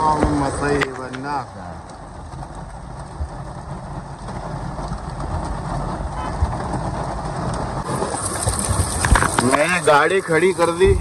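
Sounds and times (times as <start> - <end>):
heavy rain drumming on car roof: 0.0 - 11.0.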